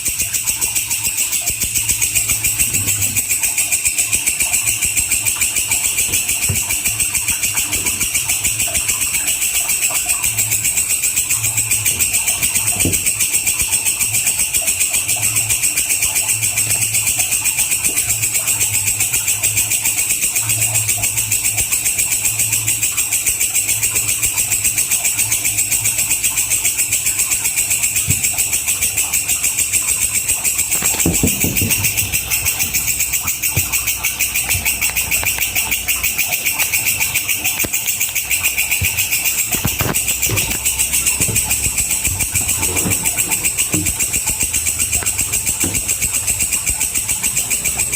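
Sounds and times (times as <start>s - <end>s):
katydid buzzing trill: 0.0s - 47.9s.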